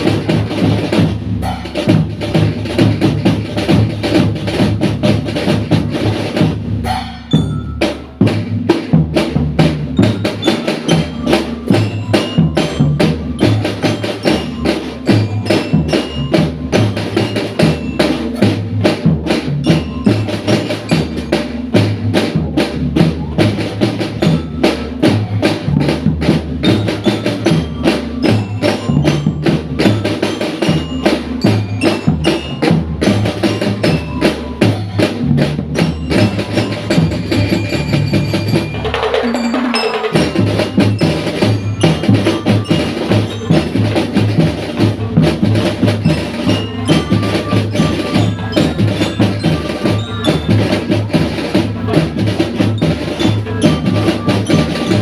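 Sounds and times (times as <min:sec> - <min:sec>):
marching drums: 0:00.0 - 0:55.0
glockenspiel melody: 0:07.0 - 0:08.6, 0:09.7 - 0:22.1, 0:23.2 - 0:55.0.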